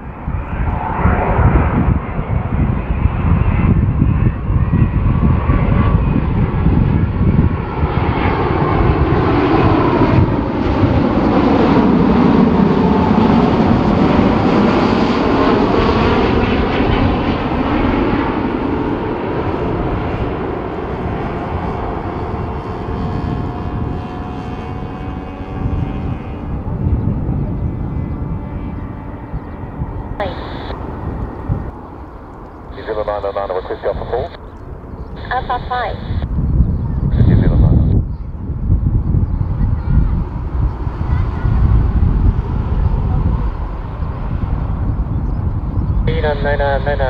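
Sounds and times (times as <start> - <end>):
jet engine whine passing overhead: 0.0 - 47.0.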